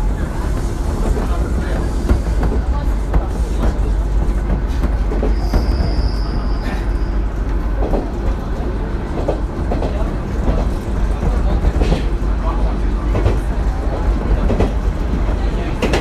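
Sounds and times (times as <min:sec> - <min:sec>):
railcar rumble: 0:00.0 - 0:16.0.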